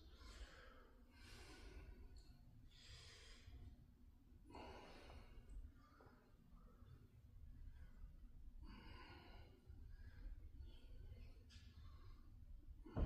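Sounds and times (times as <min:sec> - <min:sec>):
man breathing: 0:00.0 - 0:03.8, 0:04.4 - 0:13.0.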